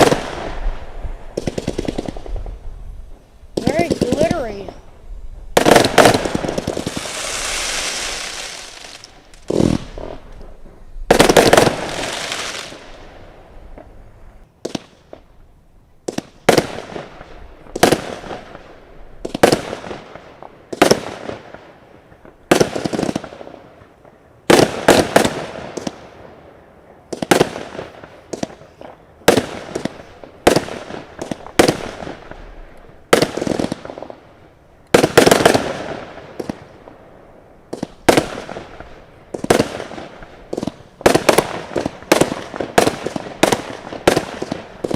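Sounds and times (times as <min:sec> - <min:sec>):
firework bangs: 0:00.0 - 0:15.3, 0:16.0 - 0:44.9
firework crackle: 0:00.0 - 0:15.4, 0:16.0 - 0:44.9.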